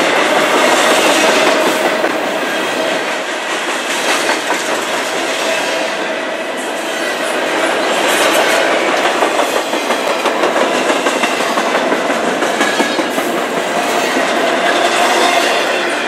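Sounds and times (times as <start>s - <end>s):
wheels clacking over rail joints: 0.0s - 6.4s, 7.2s - 16.0s
steel wheels on rails: 0.0s - 16.0s.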